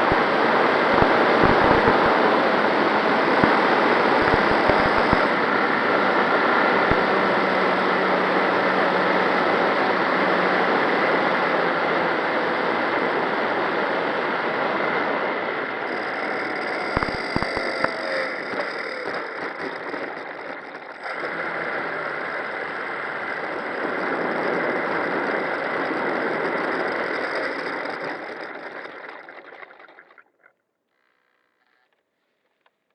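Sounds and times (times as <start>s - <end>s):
model plane motor and propeller: 0.0s - 32.0s.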